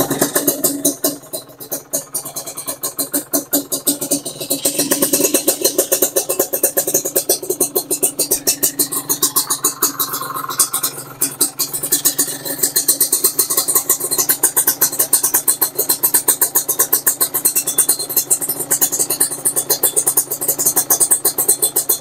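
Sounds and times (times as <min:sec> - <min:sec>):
two-stroke engine idling: 0:00.0 - 0:22.0.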